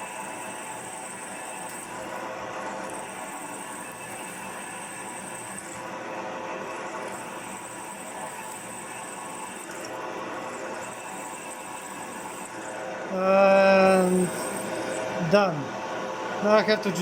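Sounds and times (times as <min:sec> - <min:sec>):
drill cutting steel whine: 0:00.0 - 0:15.8
machine spindle hum: 0:00.0 - 0:17.0.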